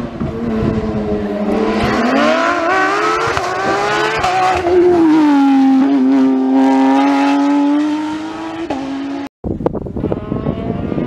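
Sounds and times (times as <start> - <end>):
rally car engine passing: 0.0 - 9.3.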